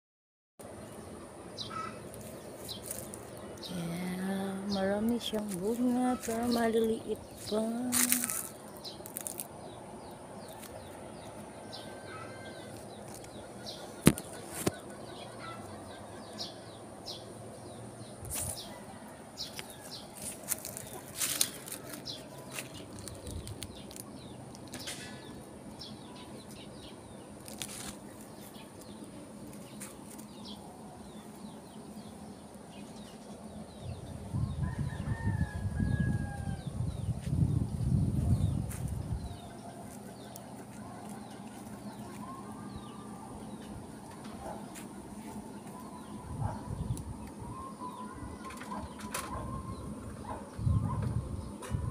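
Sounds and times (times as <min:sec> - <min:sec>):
small birds chirping: 0:00.6 - 0:18.8, 0:19.4 - 0:35.6, 0:36.6 - 0:51.9.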